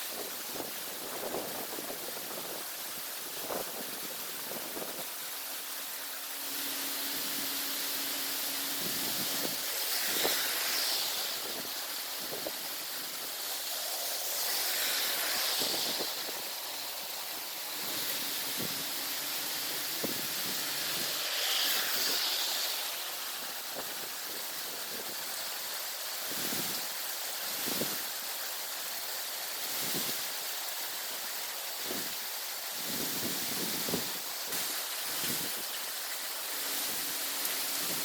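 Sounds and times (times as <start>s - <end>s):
heavy rain pouring: 0.0s - 38.0s
raindrops ticking on surfaces: 0.0s - 38.0s.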